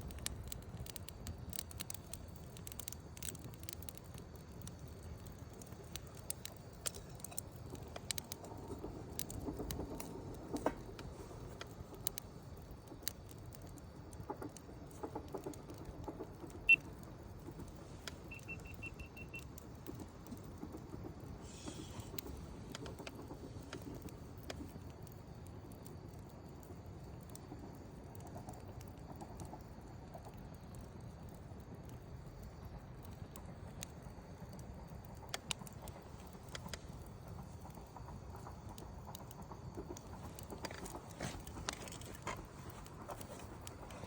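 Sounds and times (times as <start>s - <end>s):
fire crackles and pops: 0.0s - 44.0s
low rumble of flames: 0.0s - 44.0s.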